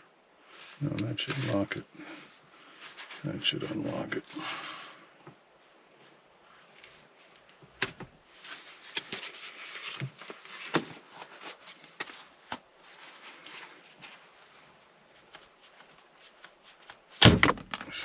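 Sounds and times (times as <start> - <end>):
rustling: 0.4 - 18.0.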